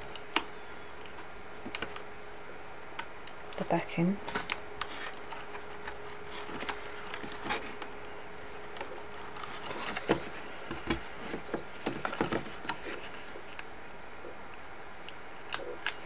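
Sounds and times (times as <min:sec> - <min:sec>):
cardstock clicks and crinkles: 0:00.1 - 0:02.1, 0:03.0 - 0:13.7, 0:15.1 - 0:16.0.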